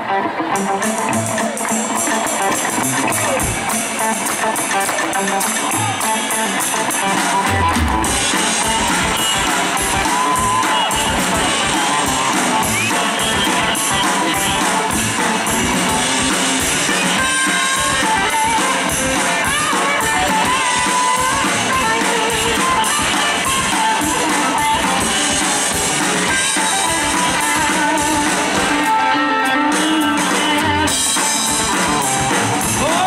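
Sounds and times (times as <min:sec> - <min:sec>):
lead guitar bending in pitch: 0:00.0 - 0:33.0
rock band playing live: 0:00.0 - 0:33.0.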